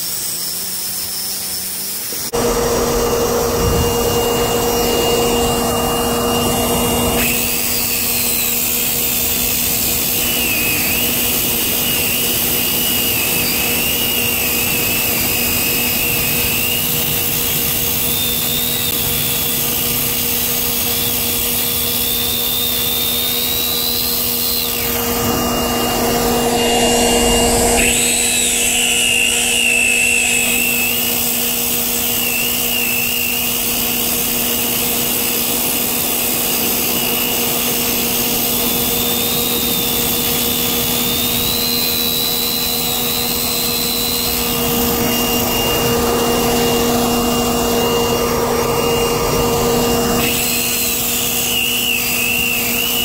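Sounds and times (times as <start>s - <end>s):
circular saw cutting asphalt: 0.0s - 53.0s.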